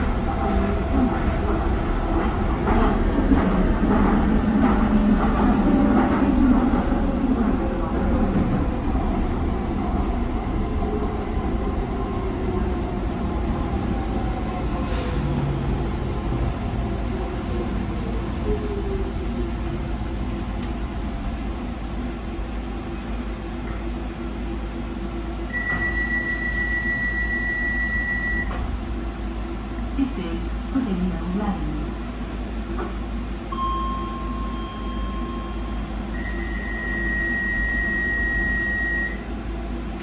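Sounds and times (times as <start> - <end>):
wheels rumbling on rail: 0.0 - 34.4.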